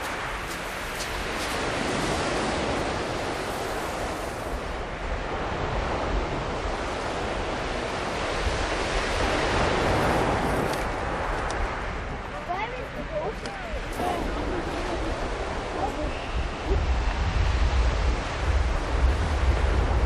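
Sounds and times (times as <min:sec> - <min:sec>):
surf breaking on shingle beach: 0:00.0 - 0:20.0.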